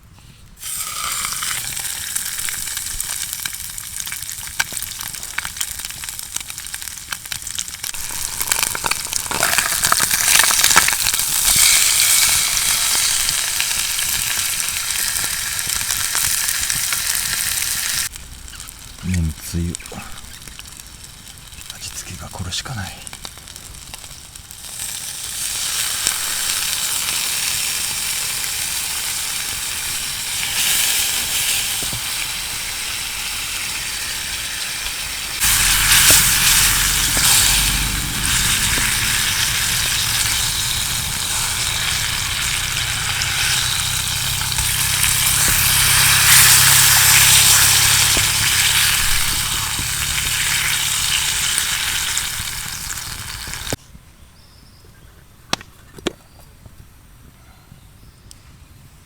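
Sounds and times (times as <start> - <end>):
food sizzling in a frying pan: 0.6 - 53.8.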